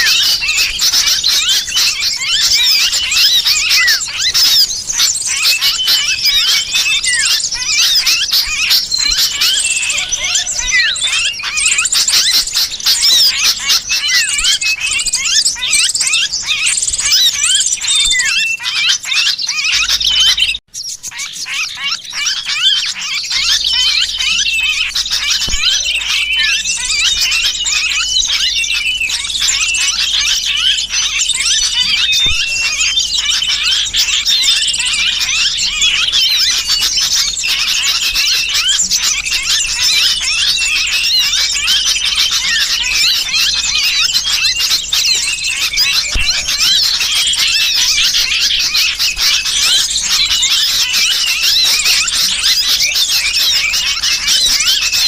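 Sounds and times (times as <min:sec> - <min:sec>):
bird distress calls: 0:00.0 - 0:55.0
small birds chattering and squealing: 0:00.0 - 0:55.0.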